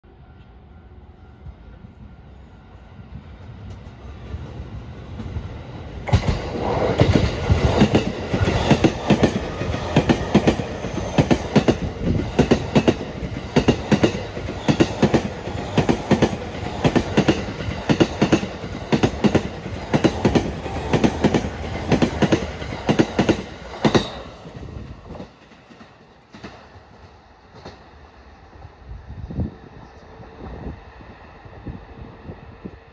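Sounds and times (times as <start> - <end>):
electric train passing: 0.0 - 32.9.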